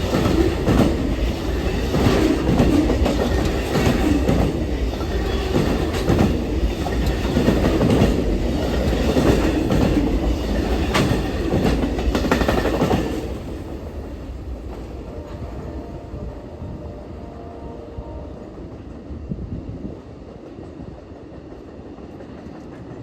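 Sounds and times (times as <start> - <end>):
train cars rumbling by: 0.0 - 23.0.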